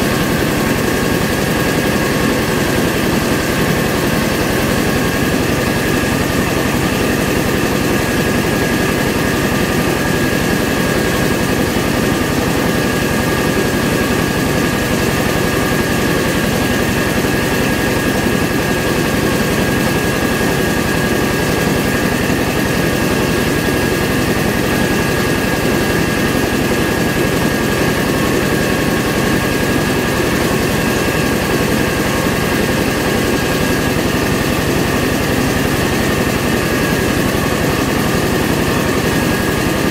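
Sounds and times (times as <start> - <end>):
rice mill machinery drone: 0.0 - 39.9.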